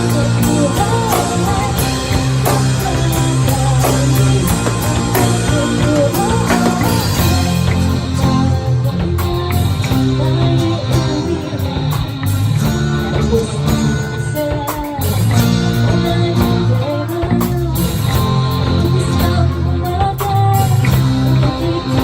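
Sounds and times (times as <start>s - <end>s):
person singing: 0.0s - 22.0s
rock band playing: 0.0s - 22.0s.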